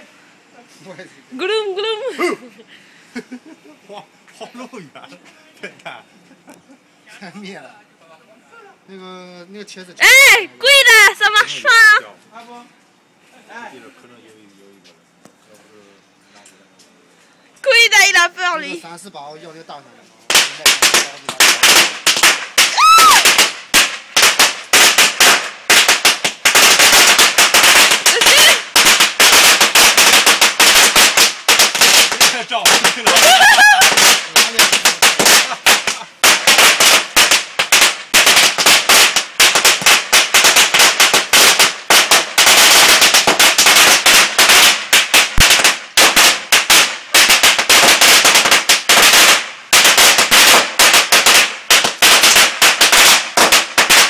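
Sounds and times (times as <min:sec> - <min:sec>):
firecrackers crackling: 0:00.0 - 0:07.7, 0:09.0 - 0:13.7, 0:17.6 - 0:54.0.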